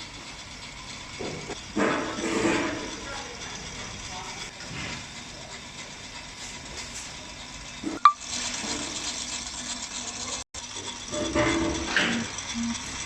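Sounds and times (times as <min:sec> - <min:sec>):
capping machine hissing: 0:00.0 - 0:13.0.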